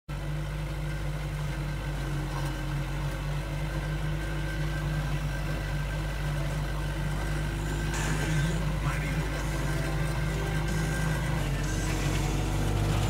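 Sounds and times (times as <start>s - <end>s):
tractor diesel engine running: 0.1s - 13.0s.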